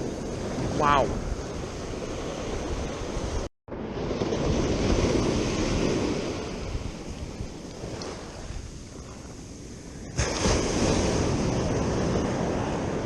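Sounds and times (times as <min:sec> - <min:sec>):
ocean surf washing on beach: 0:00.0 - 0:13.0
wind on microphone: 0:00.0 - 0:13.0.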